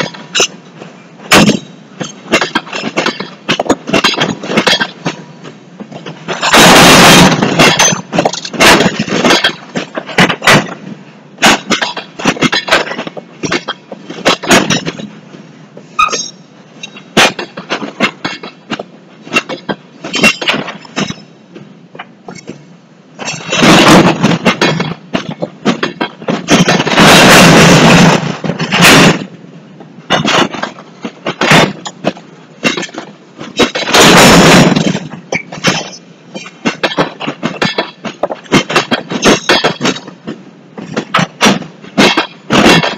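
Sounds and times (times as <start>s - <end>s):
freight train wheels clanking: 0.0s - 42.9s
train cars rattling: 0.0s - 42.9s.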